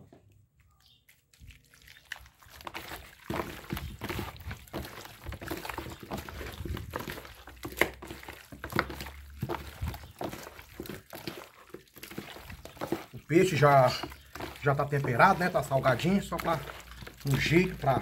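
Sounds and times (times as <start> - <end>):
wet squelches of raw meat: 0.2 - 18.0.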